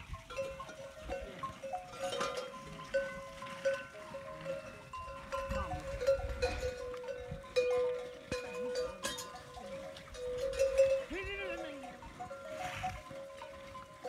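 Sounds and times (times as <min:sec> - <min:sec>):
camel bells ringing: 0:00.0 - 0:14.0.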